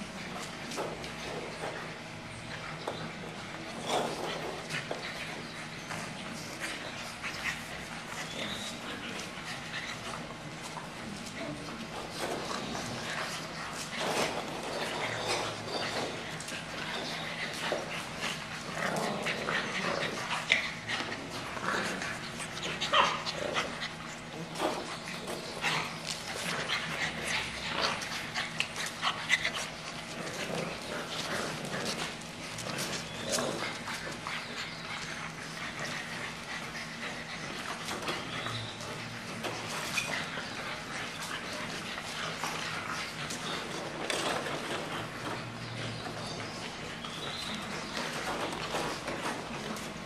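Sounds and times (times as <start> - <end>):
puppies making small noises: 0.0 - 50.0
paws and claws clicking on tile: 2.5 - 50.0.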